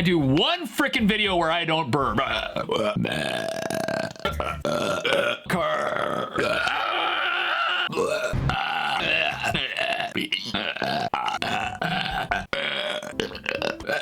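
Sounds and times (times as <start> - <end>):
man burping loudly: 2.2 - 14.0.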